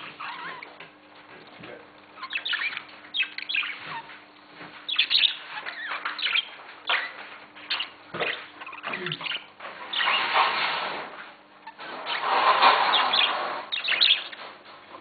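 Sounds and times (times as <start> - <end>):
small birds chirping: 0.0 - 0.8, 2.0 - 10.4, 11.6 - 14.6.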